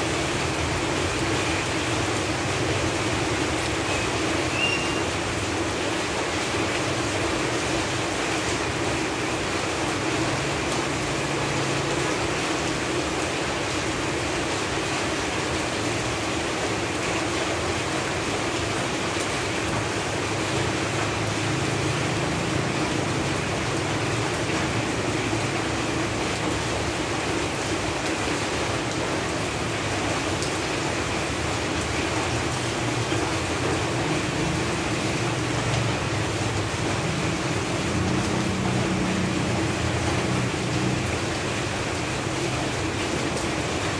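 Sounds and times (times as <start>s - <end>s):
rain falling on leaves: 0.0s - 43.9s.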